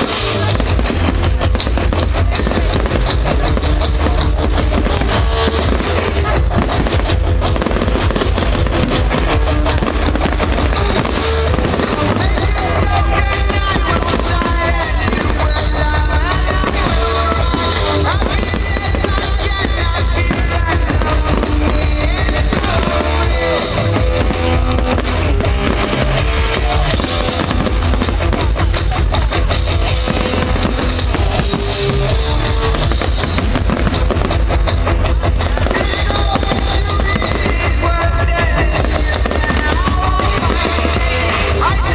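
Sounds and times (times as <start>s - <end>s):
fireworks bangs and crackles: 0.0s - 41.9s
loud pop music: 0.0s - 41.9s.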